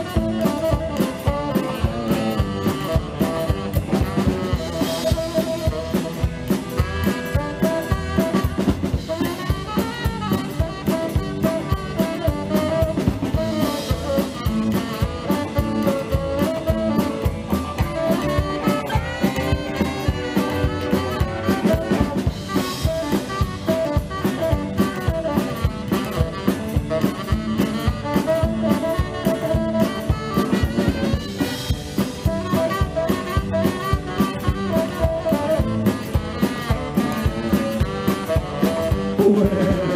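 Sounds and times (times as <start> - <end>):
drums keeping steady beat: 0.0 - 39.9
electric guitars: 0.0 - 39.9
saxophone: 0.0 - 39.9
upright double bass: 0.0 - 39.9.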